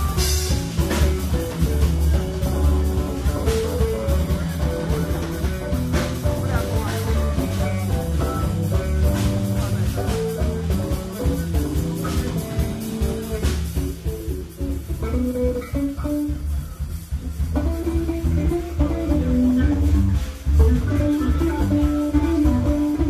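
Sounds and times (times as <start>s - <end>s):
bass guitar: 0.0s - 23.0s
drums and cymbals: 0.0s - 23.0s
electric guitar lead: 0.0s - 23.0s.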